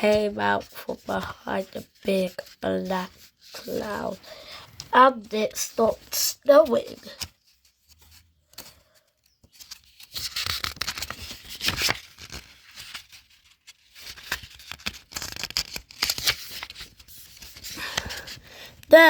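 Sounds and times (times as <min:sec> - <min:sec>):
book pages rustling: 0:00.0 - 0:19.0.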